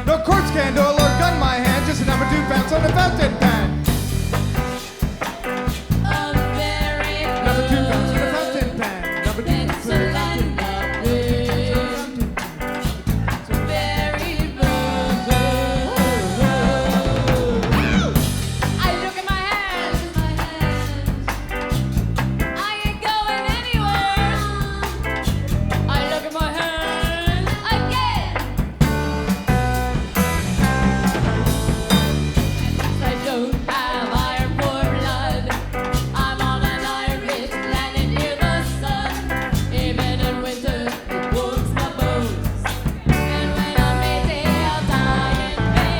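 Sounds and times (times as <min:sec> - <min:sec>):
live rock band playing: 0:00.0 - 0:45.9
wavering lead guitar line: 0:00.0 - 0:45.9.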